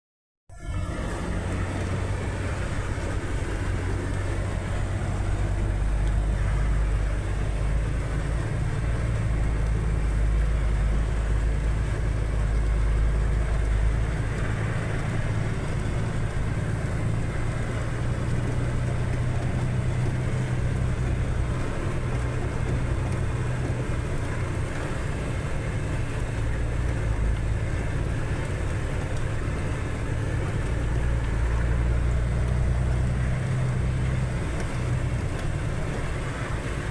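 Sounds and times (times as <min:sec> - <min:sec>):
vehicle engine droning: 0:00.5 - 0:36.9.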